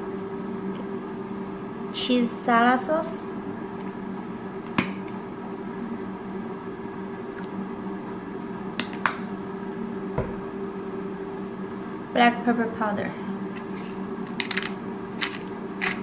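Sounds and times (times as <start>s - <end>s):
air fryer humming: 0.0s - 16.0s.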